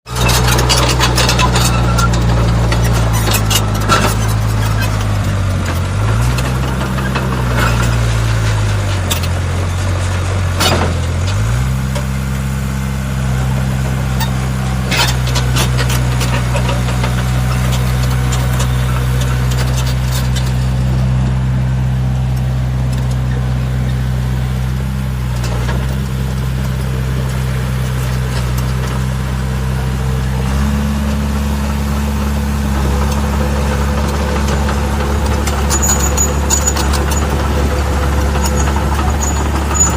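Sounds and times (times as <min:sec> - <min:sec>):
model bulldozer engine drone: 0:00.1 - 0:39.9.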